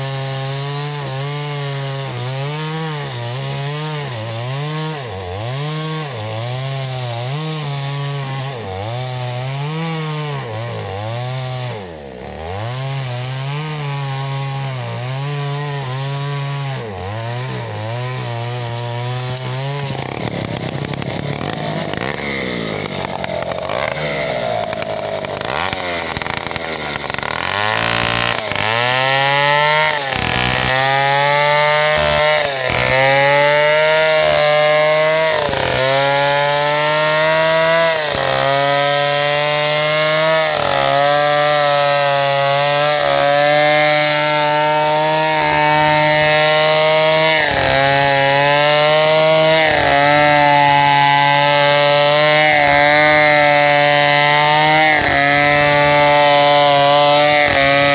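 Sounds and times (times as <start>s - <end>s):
chainsaw ripping log at high revs: 0.0s - 57.9s
chainsaws cutting wood: 0.0s - 57.9s.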